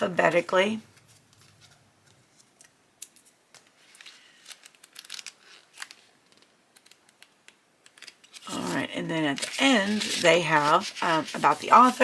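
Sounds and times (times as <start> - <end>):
book pages being flipped: 0.9 - 12.0.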